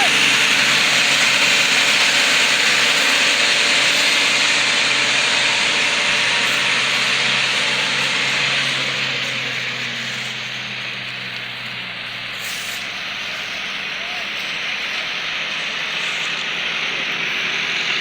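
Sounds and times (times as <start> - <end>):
tractor engines running hard: 0.0 - 18.0.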